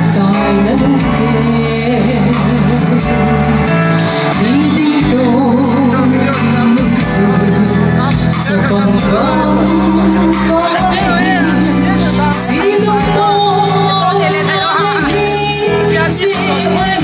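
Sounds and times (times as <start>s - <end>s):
backing music with bass and beat: 0.0s - 17.0s
woman singing into microphone: 0.0s - 17.0s.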